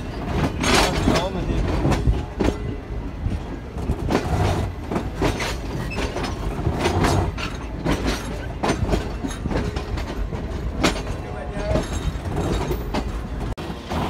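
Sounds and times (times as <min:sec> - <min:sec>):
sharp clacks and clanks: 0:00.0 - 0:02.6, 0:03.8 - 0:14.0
train wheels rumbling on track: 0:00.0 - 0:14.0.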